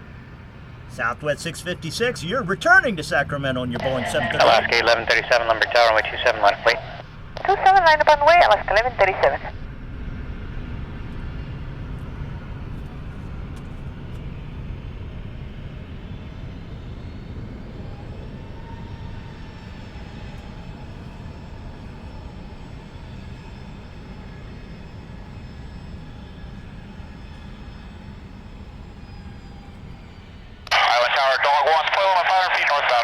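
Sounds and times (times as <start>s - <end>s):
faint jet whine: 0.0s - 33.0s
jet engines rumbling: 0.0s - 33.0s.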